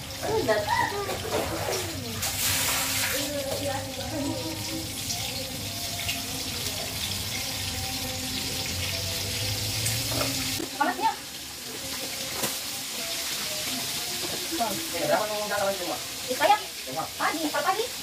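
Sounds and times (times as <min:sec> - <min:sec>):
tap water running: 0:00.0 - 0:18.0.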